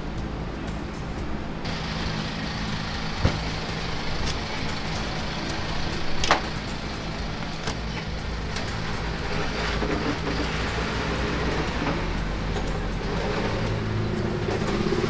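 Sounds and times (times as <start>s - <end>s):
rumble of car and bus engines: 0.0s - 15.0s.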